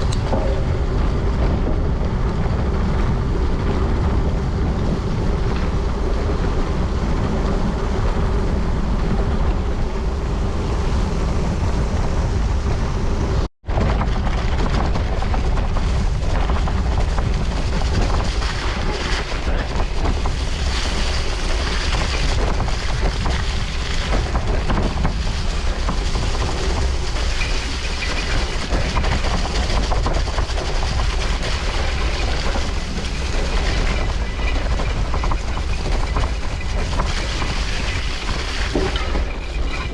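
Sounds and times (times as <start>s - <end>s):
bicycle rumbling on gravel: 0.0s - 39.9s
wind buffeting microphone: 0.0s - 39.9s.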